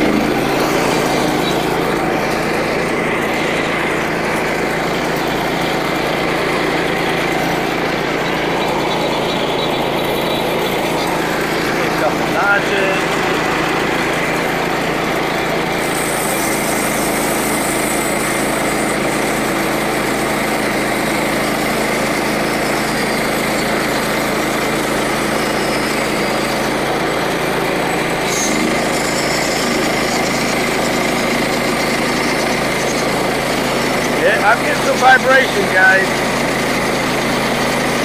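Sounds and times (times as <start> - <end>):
small gasoline engine running: 0.0 - 38.0.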